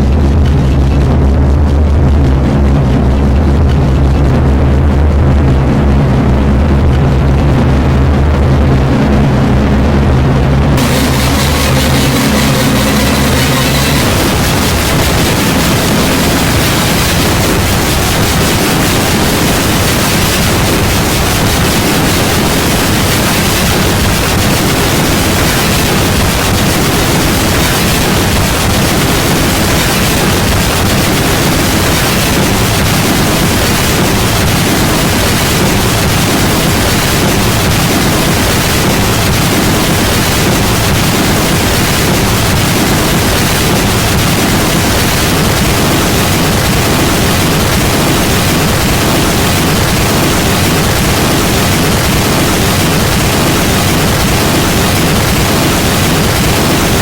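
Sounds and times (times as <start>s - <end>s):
loud static noise: 0.0s - 57.0s.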